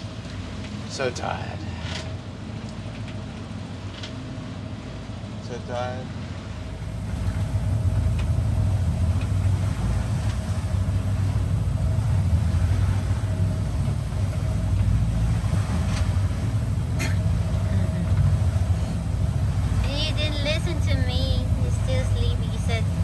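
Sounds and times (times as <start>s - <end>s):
boat engine droning: 0.0s - 23.0s
faint steady whine: 0.0s - 23.0s.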